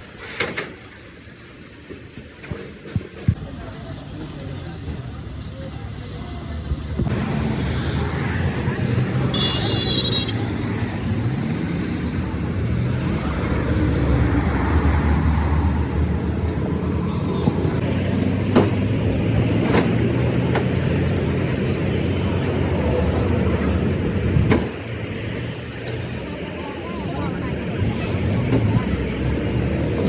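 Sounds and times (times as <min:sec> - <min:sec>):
vehicle engine humming: 0:04.2 - 0:30.0.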